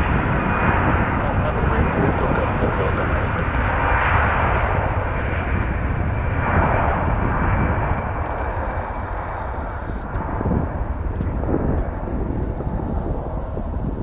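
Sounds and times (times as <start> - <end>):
jet engines at high thrust: 0.0 - 14.0.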